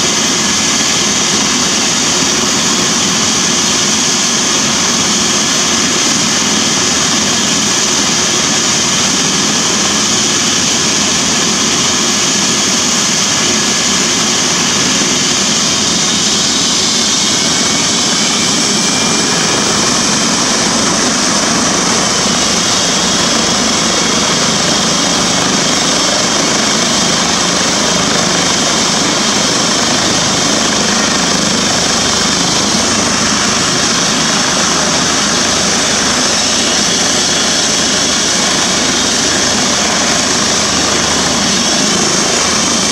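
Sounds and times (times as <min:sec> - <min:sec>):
helicopter turbine whine and rotors: 0:00.0 - 0:42.9.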